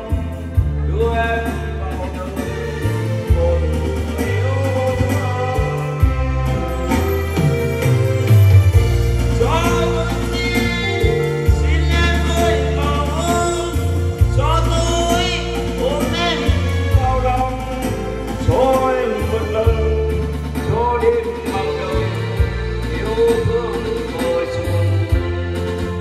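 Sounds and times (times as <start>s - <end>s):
man singing into a microphone: 0.0s - 7.9s, 9.3s - 26.0s
keyboard chords: 0.0s - 26.0s.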